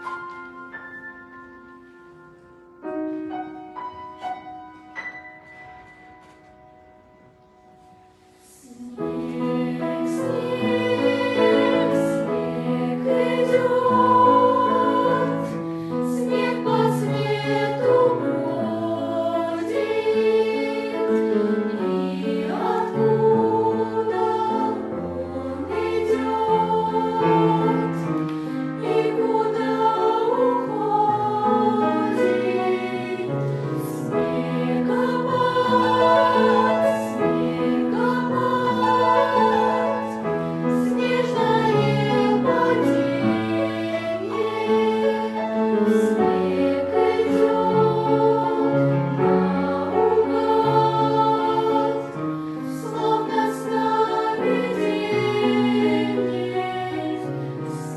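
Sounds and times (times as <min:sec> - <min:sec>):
choir singing in parts: 0:08.1 - 0:57.9.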